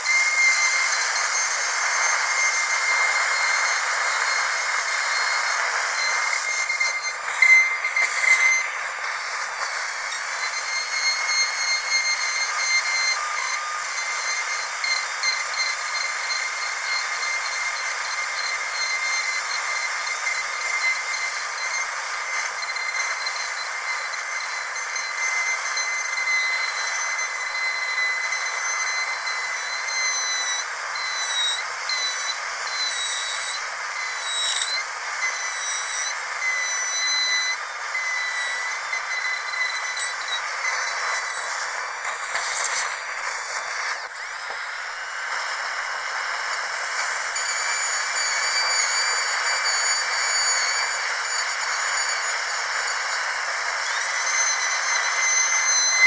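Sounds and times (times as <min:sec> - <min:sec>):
dentist's drill whining: 0:00.0 - 0:56.0.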